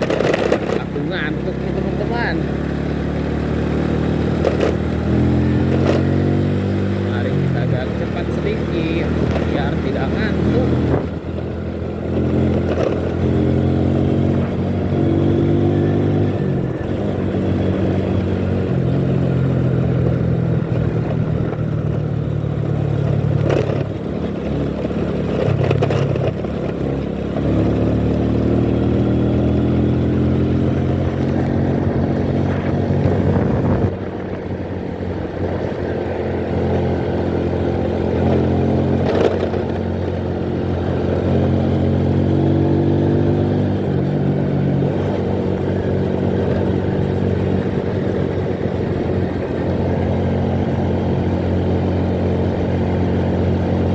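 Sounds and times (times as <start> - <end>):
vehicle engine accelerating: 0.0 - 53.9.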